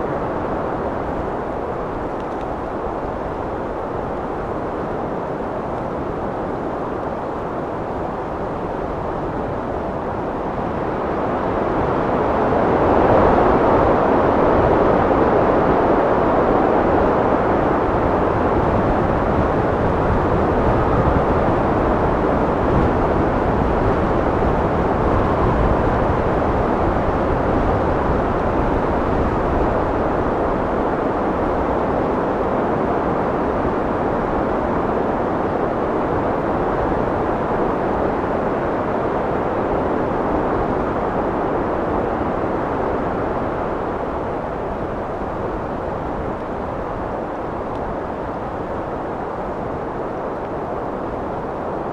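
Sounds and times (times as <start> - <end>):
steady wind blowing: 0.0 - 51.9.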